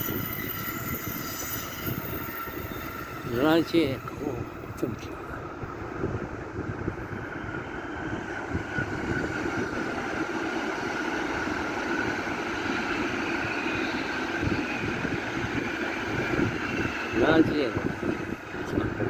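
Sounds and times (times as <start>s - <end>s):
faint high whine: 0.0s - 19.0s
train rumbling past: 0.0s - 19.0s.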